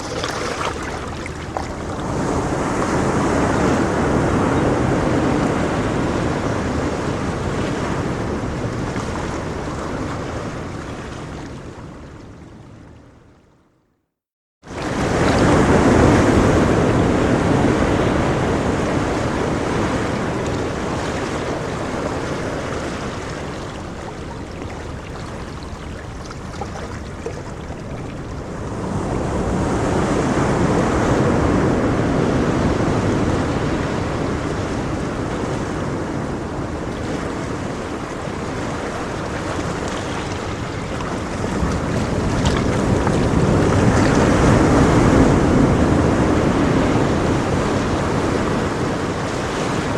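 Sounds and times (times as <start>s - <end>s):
ocean waves breaking on shore: 0.0s - 13.0s, 14.7s - 49.9s.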